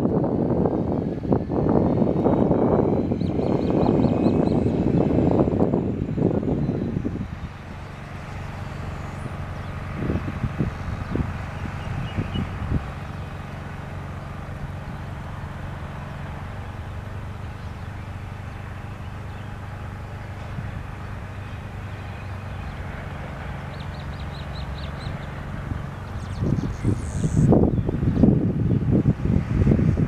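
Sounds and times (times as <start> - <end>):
diesel locomotive engines droning: 0.0 - 30.0.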